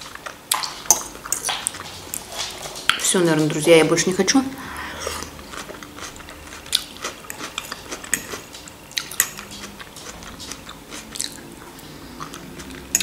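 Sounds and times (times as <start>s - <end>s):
chewing and mouth sounds: 0.0s - 3.6s, 4.9s - 13.0s.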